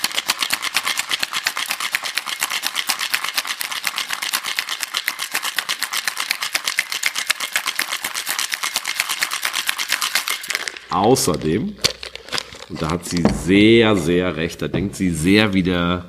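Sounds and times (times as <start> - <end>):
ice rattling in cocktail shaker: 0.0 - 14.2.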